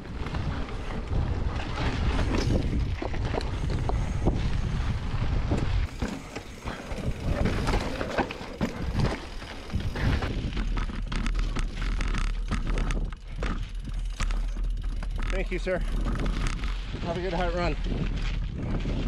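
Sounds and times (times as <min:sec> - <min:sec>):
bike clattering and rattling: 0:00.0 - 0:19.0
bike tyres crunching on dirt: 0:00.0 - 0:19.0
wind rumbling on microphone: 0:00.0 - 0:19.0.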